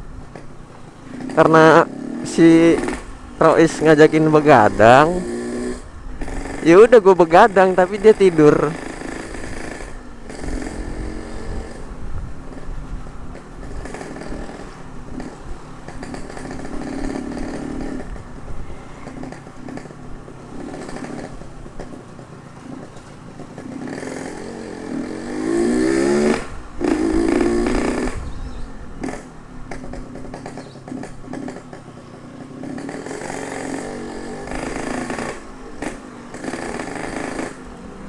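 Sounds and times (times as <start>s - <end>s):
two-stroke motorcycle engine revving: 0.0s - 38.0s.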